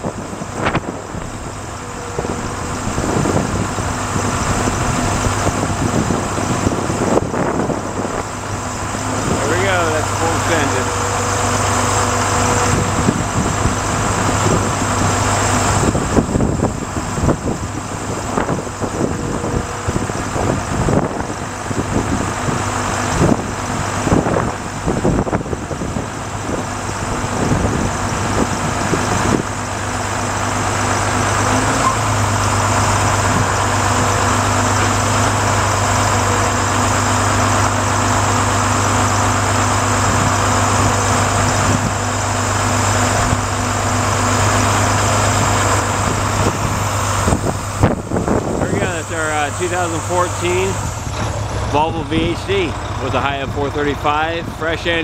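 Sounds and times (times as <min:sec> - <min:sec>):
crane hydraulics humming: 0:00.0 - 0:55.0
diesel truck engine running: 0:00.0 - 0:55.0.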